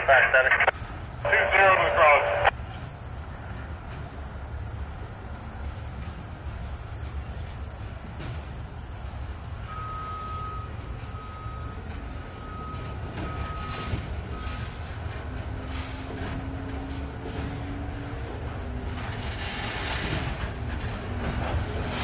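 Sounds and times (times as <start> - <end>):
railcars low rumble: 0.0 - 22.0
wheels clicking on rails: 2.7 - 22.0.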